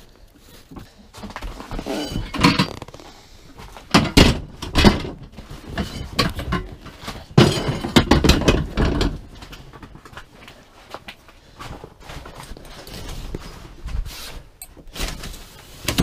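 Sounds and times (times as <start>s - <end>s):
fishing gear and plastic clattering: 0.0s - 16.0s.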